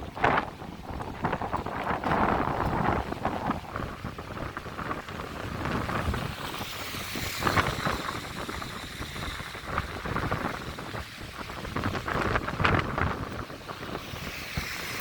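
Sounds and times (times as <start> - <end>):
rushing river: 0.0 - 15.0
wind buffeting microphone: 0.0 - 15.0.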